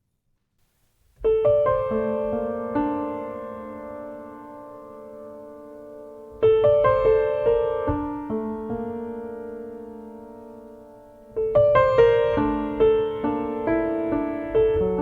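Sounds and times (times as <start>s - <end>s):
slow solo piano: 1.1s - 15.0s.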